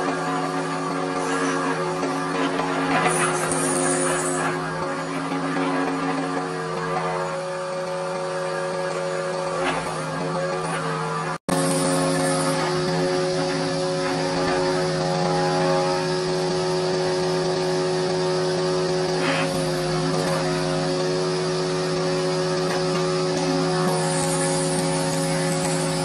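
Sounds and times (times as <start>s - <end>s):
cutter shaving wood: 0.0s - 26.0s
machine motor hum: 0.0s - 26.0s.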